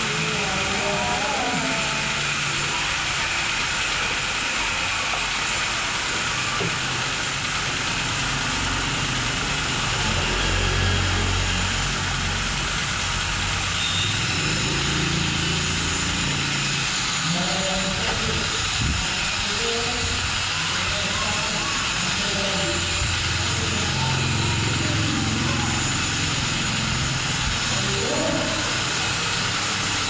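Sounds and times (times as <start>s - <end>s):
motor humming: 0.0s - 30.0s.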